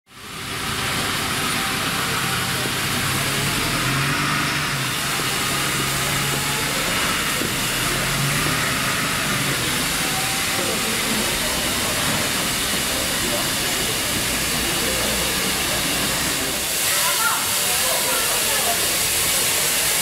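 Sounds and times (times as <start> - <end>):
steam locomotive hissing: 0.1 - 20.0.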